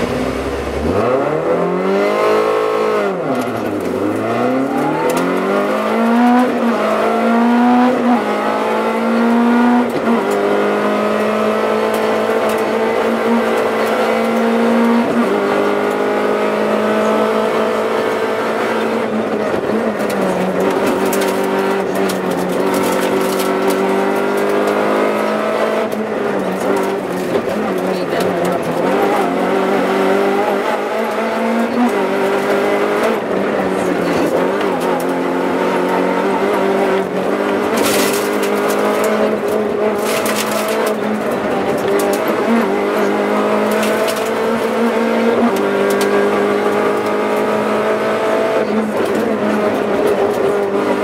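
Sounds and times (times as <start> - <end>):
car engine accelerating through gears: 0.0 - 51.0.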